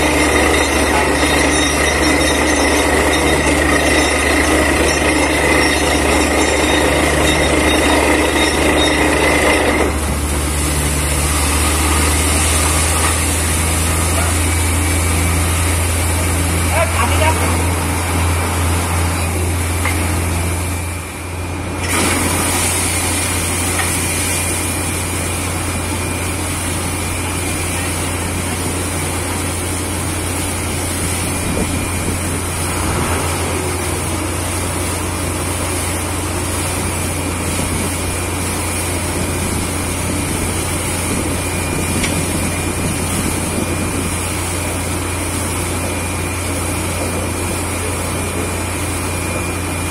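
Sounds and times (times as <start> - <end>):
heavy engine drone: 0.0 - 49.9.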